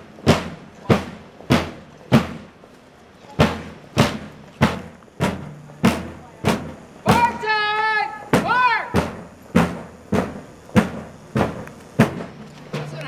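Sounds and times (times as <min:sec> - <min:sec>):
bass drum marching beat: 0:00.0 - 0:02.6, 0:03.3 - 0:07.5, 0:08.2 - 0:13.0.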